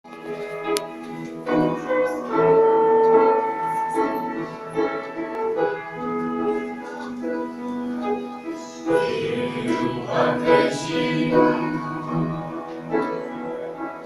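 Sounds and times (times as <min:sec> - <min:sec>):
keyboard playing chords and melody: 0:00.9 - 0:14.0.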